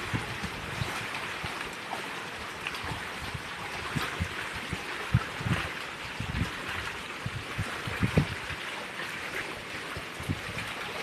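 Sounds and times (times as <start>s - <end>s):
stream babbling over stones: 0.0s - 11.0s.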